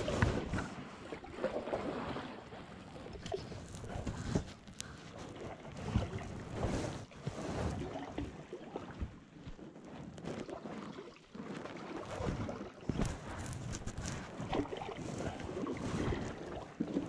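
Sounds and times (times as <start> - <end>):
paddles splashing through water: 0.0 - 17.0.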